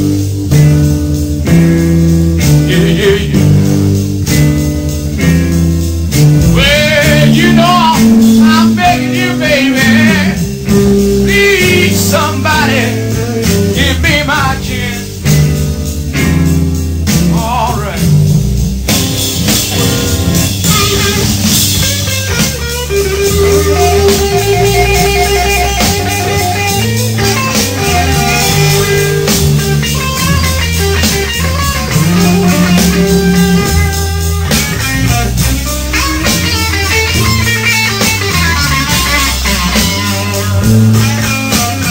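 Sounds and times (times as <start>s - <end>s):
electric guitar: 0.0s - 41.9s
live blues-rock band: 0.0s - 41.9s.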